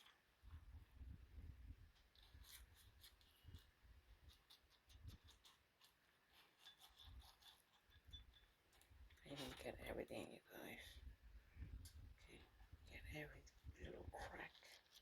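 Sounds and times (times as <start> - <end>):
brush dabbing egg wash on crust: 0.0 - 15.0.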